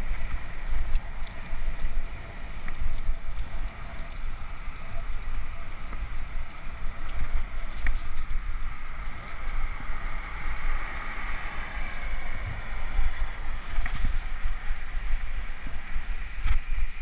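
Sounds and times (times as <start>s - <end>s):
wind buffeting a microphone: 0.0s - 17.0s.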